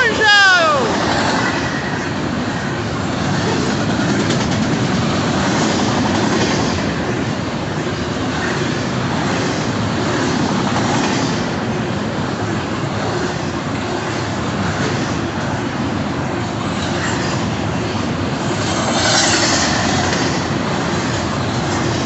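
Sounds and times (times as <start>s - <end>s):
freight train wheels on rail: 0.0s - 22.0s.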